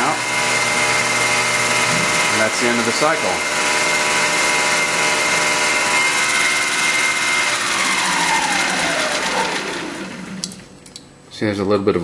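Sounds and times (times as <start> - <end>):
lathe spindle whining: 0.0 - 10.5.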